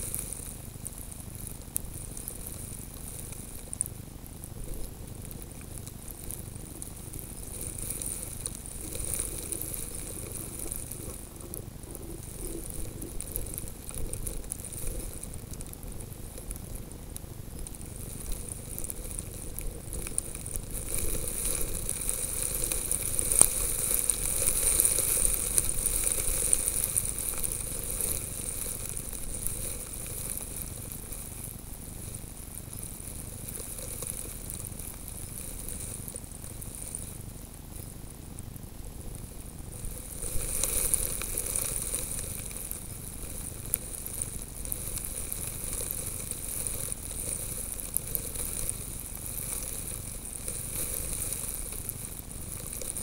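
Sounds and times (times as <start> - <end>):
snow grains pattering on camera: 0.0 - 53.0.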